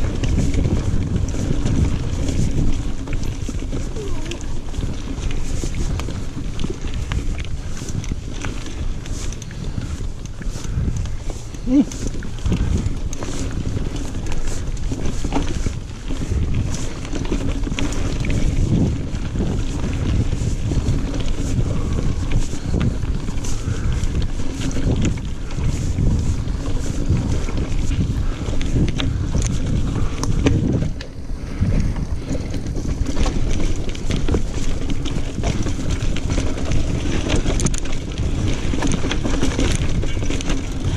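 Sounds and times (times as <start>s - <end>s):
bike clicking and rattling: 0.0s - 40.9s
bike tyres rumbling on dirt: 0.0s - 40.9s
wind over microphone: 0.0s - 40.9s.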